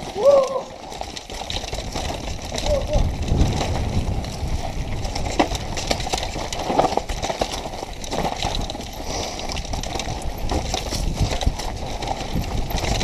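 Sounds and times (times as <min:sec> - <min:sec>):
bike rattling and knocking: 0:00.0 - 0:13.0
bike tyres rumbling over dirt: 0:00.0 - 0:13.0.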